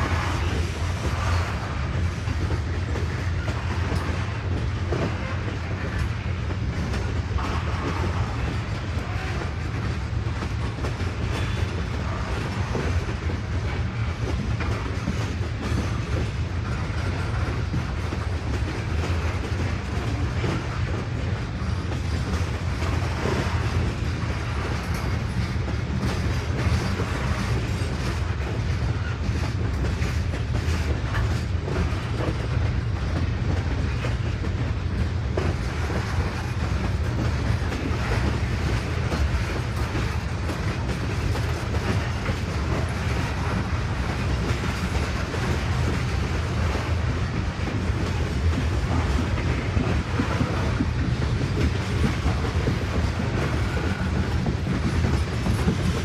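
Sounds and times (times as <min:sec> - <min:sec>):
train cars rolling past: 0:00.0 - 0:56.0
wheels clacking over rail joints: 0:00.0 - 0:56.0.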